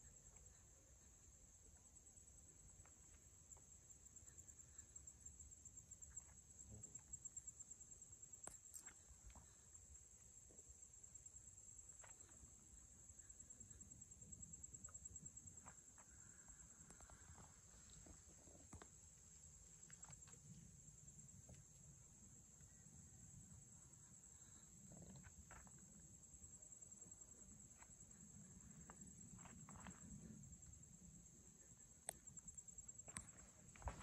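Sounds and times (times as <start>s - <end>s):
crickets trilling: 0.0s - 34.0s
faint ticks and crunches: 0.0s - 34.0s.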